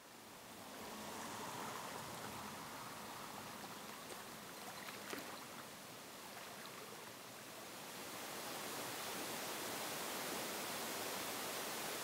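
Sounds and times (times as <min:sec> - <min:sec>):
stream flowing over rocks: 0:00.2 - 0:12.0.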